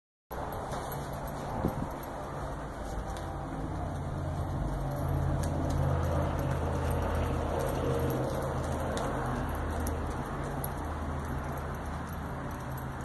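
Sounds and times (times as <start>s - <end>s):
horse tack jingling: 0.3s - 13.0s.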